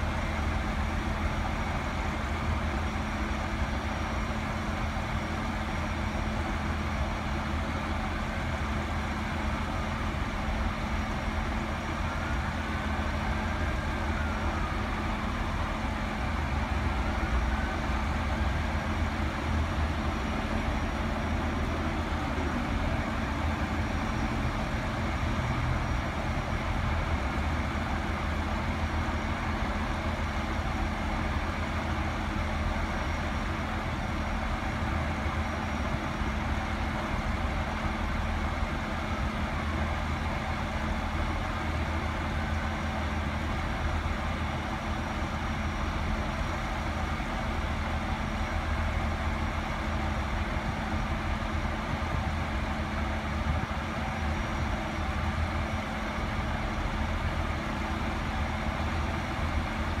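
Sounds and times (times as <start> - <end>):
diesel train engines idling: 0.0 - 60.0.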